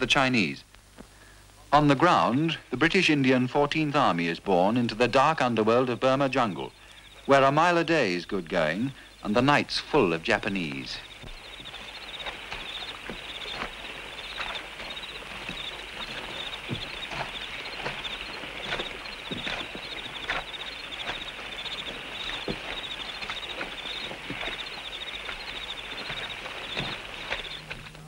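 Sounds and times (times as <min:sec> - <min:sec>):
leaves rustling: 0:00.0 - 0:28.0.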